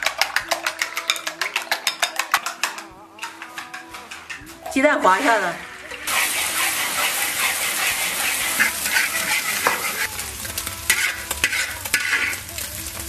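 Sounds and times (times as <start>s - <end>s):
utensil clicking against pan: 0.0s - 4.8s, 5.9s - 13.0s
eggs sizzling in oil: 0.0s - 13.0s.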